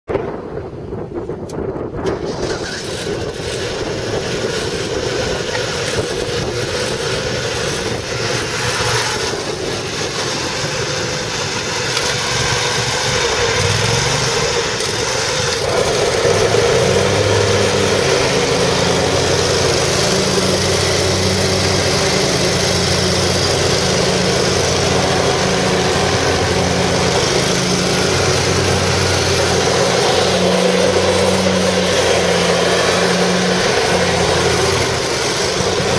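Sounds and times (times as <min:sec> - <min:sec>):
lawn mower engine running: 0:01.8 - 0:35.9.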